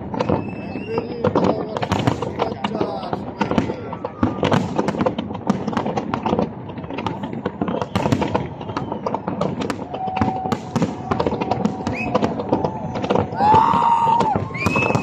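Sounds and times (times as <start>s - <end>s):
fireworks shell bursts and crackling: 0.0s - 15.0s.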